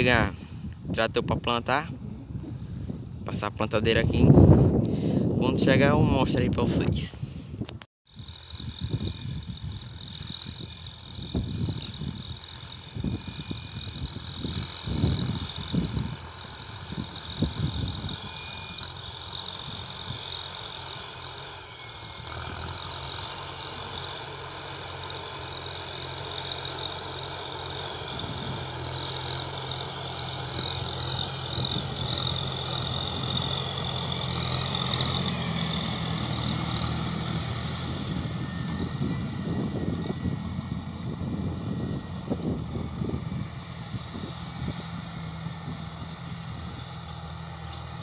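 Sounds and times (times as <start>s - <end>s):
tractor diesel engine running: 8.1s - 48.0s.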